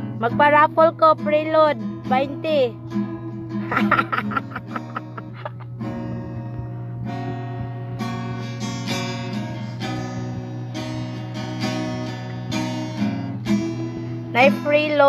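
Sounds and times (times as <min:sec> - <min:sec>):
acoustic guitar strumming: 0:00.0 - 0:15.0
steady low hum: 0:00.0 - 0:15.0.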